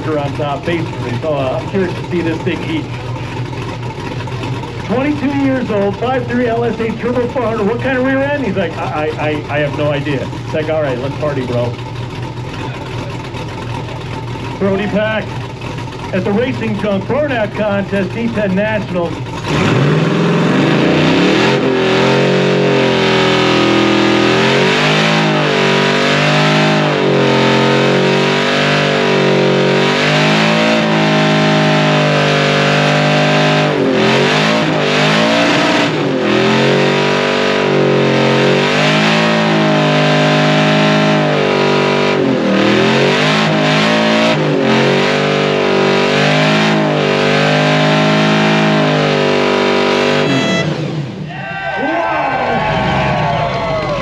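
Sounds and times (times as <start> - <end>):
engine revving high in burnout: 0.0 - 54.0.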